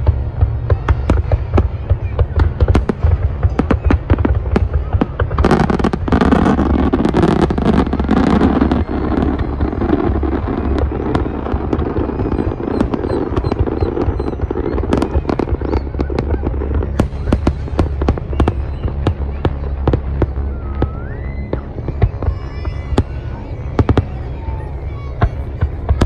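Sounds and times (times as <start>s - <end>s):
fireworks bangs and crackling: 0.0s - 26.0s
low rumble: 0.0s - 26.0s.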